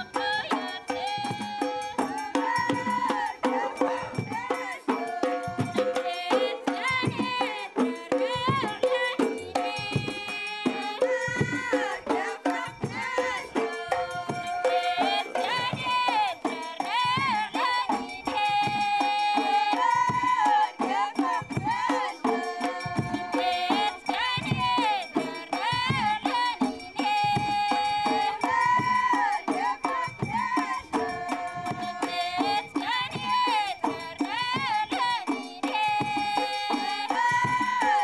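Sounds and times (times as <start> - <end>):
drum beats: 0.0 - 38.0.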